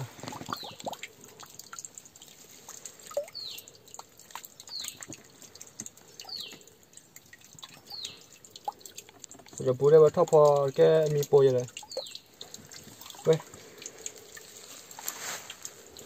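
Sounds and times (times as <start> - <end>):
bottles and stones clicking: 0.0 - 16.0
water dripping: 0.0 - 16.0.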